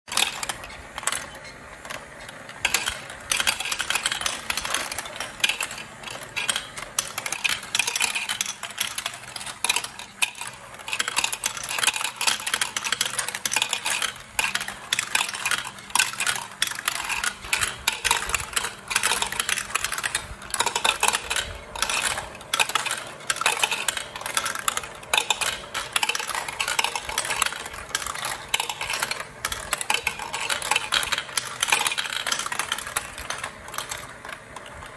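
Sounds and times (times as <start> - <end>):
marbles clattering down chutes: 0.1 - 34.9.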